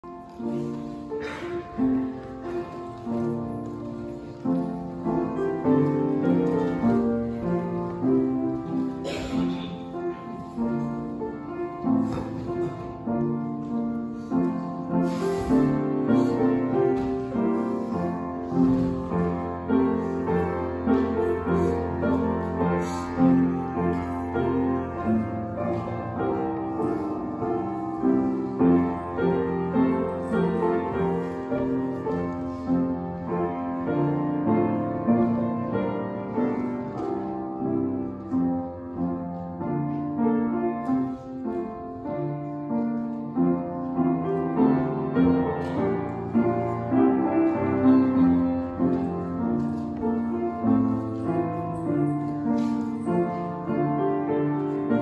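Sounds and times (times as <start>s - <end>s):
piano playing melody and chords: 0.0s - 55.0s.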